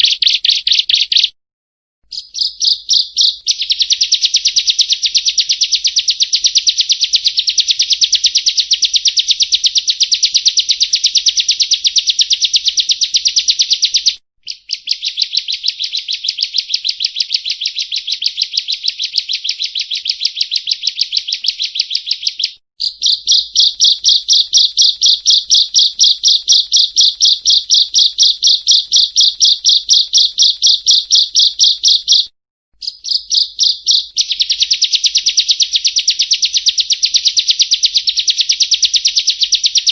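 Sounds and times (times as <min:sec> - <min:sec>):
bird singing buzzy trill: 0:00.0 - 0:01.4, 0:02.1 - 0:39.9.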